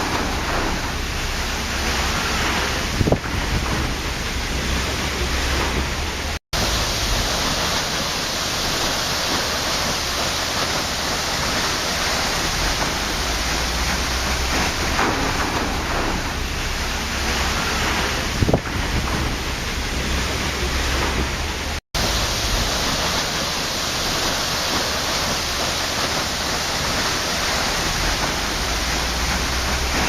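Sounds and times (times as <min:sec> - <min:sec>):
water splash: 0:00.0 - 0:30.0
waterfall roaring: 0:00.0 - 0:30.0.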